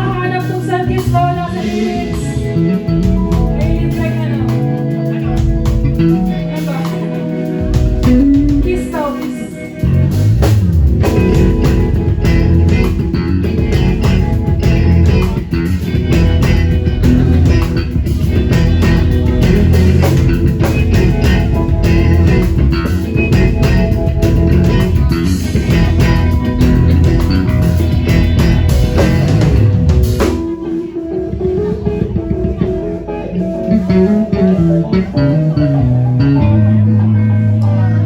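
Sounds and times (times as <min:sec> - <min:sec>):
bass guitar: 0:00.0 - 0:38.0
guitar: 0:00.0 - 0:38.0
live band instrumental music: 0:00.0 - 0:38.0.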